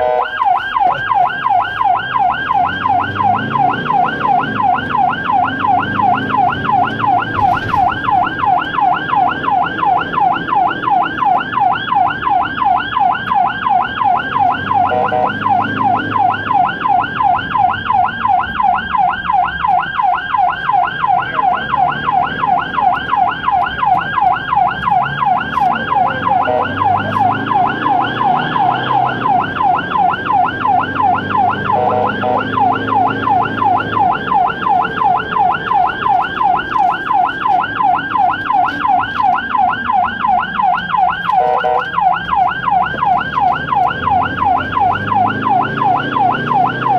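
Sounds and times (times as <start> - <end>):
ambulance siren yelping: 0.0 - 46.9
road noise: 0.0 - 46.9
vehicle engine rumble: 0.0 - 46.9.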